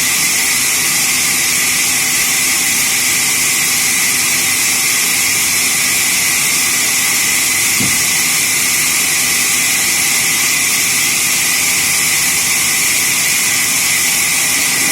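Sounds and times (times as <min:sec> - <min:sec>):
sawmill saw hissing: 0:00.0 - 0:14.9.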